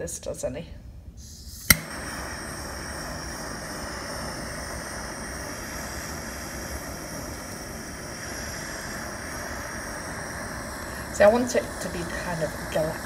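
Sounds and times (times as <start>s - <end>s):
torch flame hissing: 1.2s - 13.0s.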